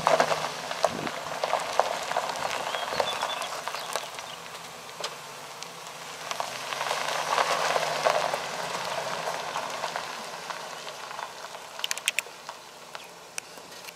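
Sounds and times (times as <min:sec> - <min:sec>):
low engine hum: 0:00.0 - 0:13.9
tyres crunching over gravel: 0:00.0 - 0:13.9.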